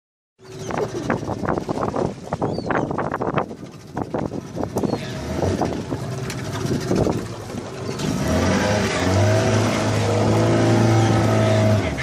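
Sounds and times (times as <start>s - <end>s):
boat engine running: 0.4s - 12.0s.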